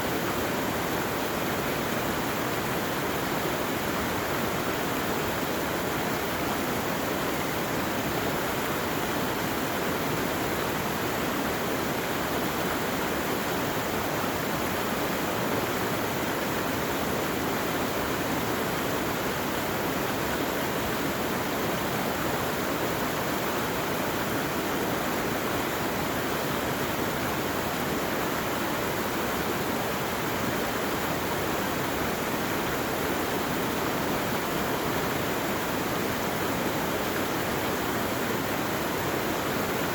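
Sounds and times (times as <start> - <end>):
fast-running water rushing: 0.0 - 39.9.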